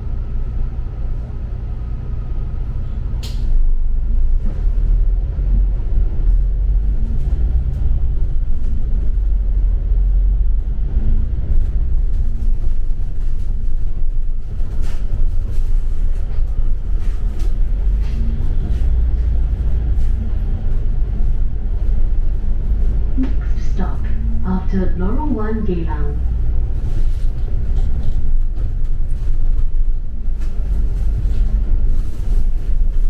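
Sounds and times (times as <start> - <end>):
bus engine and road drone: 0.0 - 33.0.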